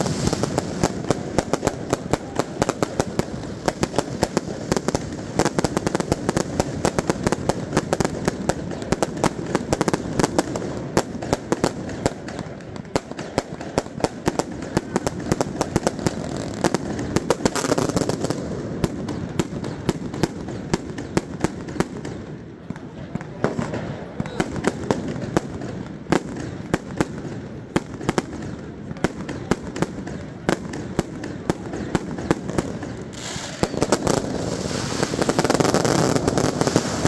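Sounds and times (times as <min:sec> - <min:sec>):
firecrackers banging: 0:00.0 - 0:37.0.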